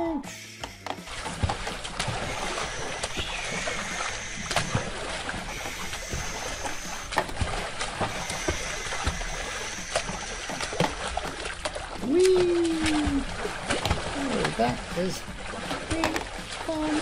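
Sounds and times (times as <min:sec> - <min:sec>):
shallow water splashing: 0:00.3 - 0:17.0.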